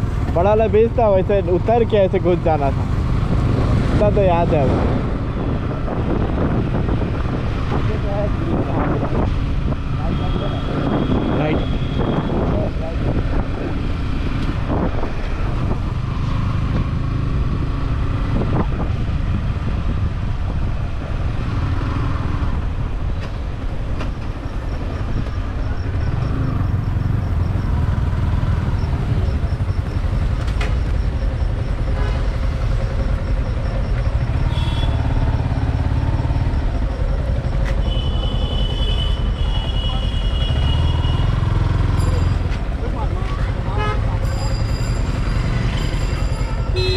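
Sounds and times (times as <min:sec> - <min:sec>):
motorcycle engine rumble: 0:00.0 - 0:46.9
road noise: 0:00.0 - 0:46.9.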